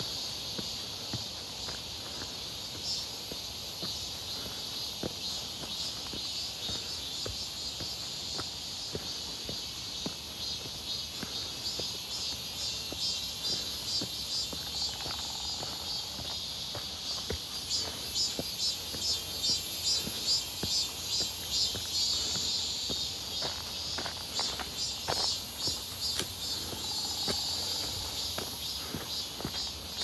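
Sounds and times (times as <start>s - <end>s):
cicadas buzzing in chorus: 0.0s - 30.0s
footsteps on rocky dirt trail: 0.0s - 30.0s.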